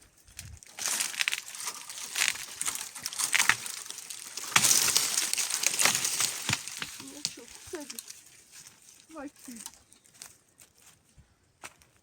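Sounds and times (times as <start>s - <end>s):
dry brushwood cracking: 0.0s - 10.9s.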